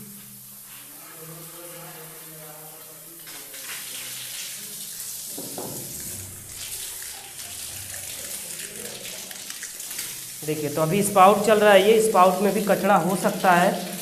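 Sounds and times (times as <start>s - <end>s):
water gushing and splashing on tiles: 0.0s - 14.0s.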